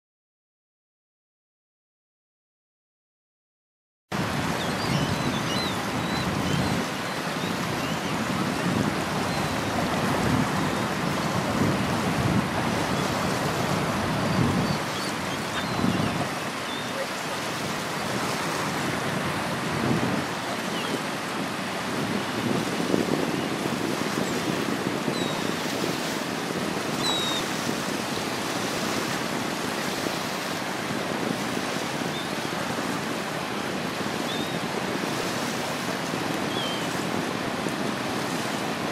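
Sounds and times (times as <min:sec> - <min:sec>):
river water lapping on stone shore: 0:04.2 - 0:38.9
wind buffeting microphone: 0:04.2 - 0:38.9.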